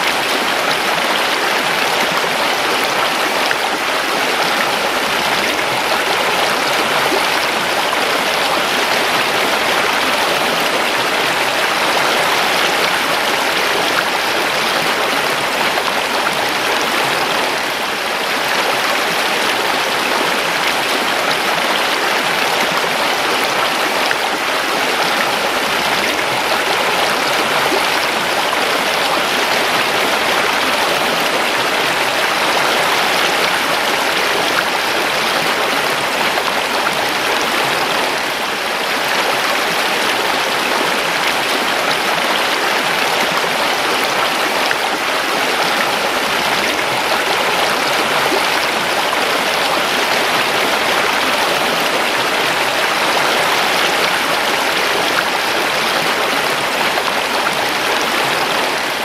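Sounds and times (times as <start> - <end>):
creek flowing over stones: 0.0 - 59.0.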